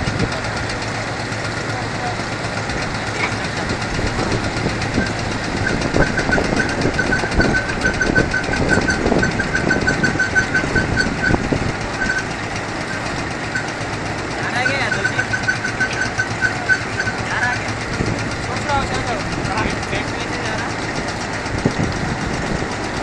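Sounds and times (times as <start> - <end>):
machine drone with knocks: 0.0 - 23.0
rhythmic high squeak: 1.6 - 23.0.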